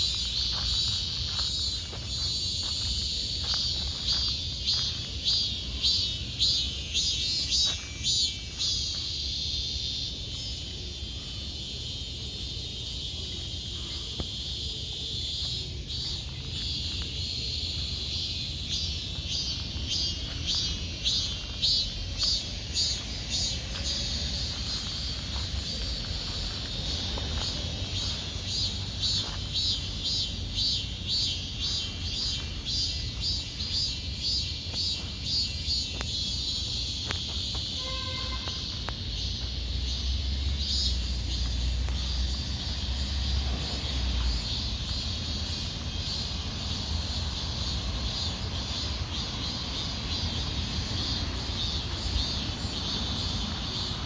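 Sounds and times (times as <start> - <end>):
footsteps on forest path: 0.0 - 11.1, 13.2 - 53.9
insects chirring: 0.0 - 54.0.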